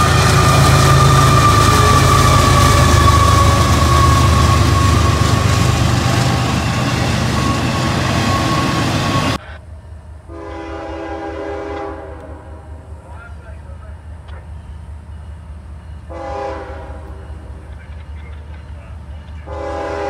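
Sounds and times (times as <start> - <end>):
distant train horn: 0.0 - 9.6, 10.2 - 13.6, 16.0 - 18.3, 18.9 - 20.0
freight train rumbling past: 0.0 - 20.0.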